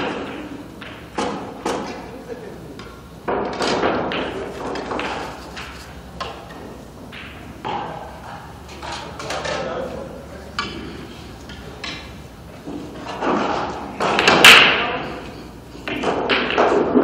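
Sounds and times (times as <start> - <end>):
pool balls clacking: 0.0 - 17.0.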